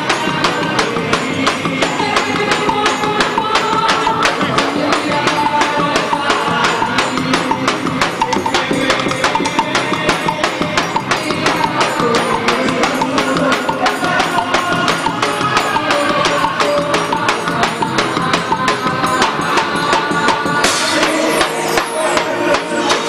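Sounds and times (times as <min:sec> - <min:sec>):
fast percussion beat: 0:00.0 - 0:23.0.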